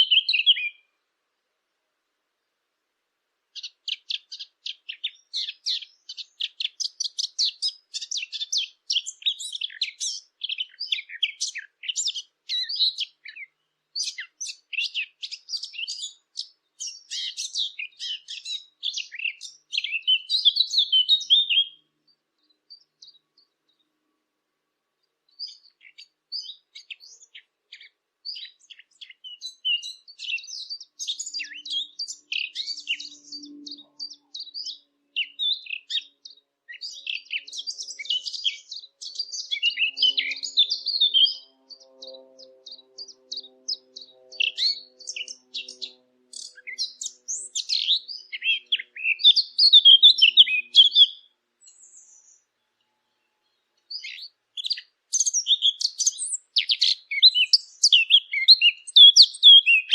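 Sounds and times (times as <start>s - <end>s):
warbler singing chattering warble: 0.0s - 0.8s, 3.6s - 23.9s, 25.0s - 52.5s, 53.8s - 59.9s.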